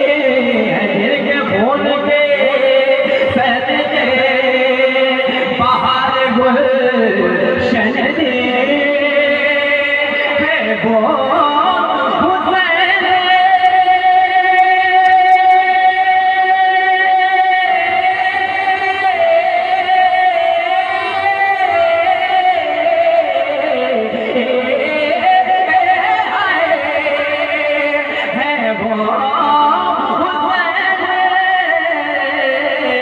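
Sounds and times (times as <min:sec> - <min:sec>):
man singing long high note: 0:00.0 - 0:33.0.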